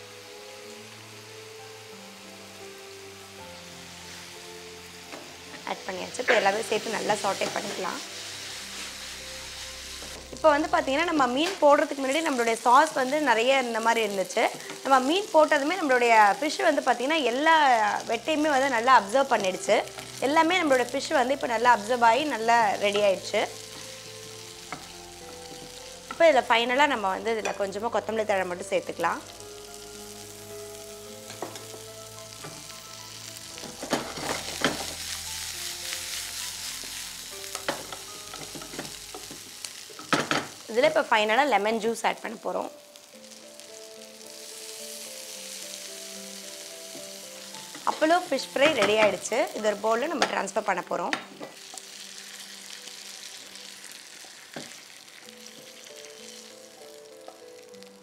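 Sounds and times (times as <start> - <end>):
fish sizzling in a frying pan: 0.0 - 58.0
soft background music: 0.0 - 58.0.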